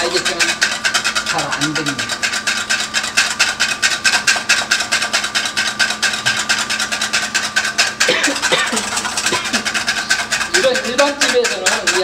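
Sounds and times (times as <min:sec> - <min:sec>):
wire whisk scraping metal bowl: 0:00.0 - 0:12.0.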